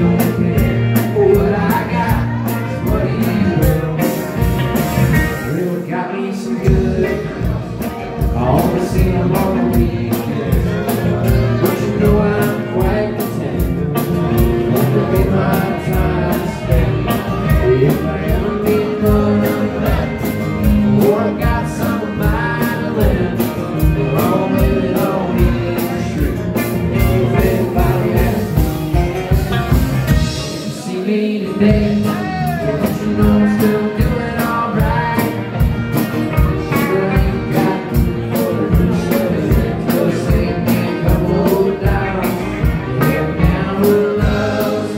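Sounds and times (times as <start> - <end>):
drum kit steady beat: 0.0 - 5.7, 6.6 - 30.8, 31.6 - 44.9
live country-rock band playing: 0.0 - 44.9
person singing: 0.0 - 44.9.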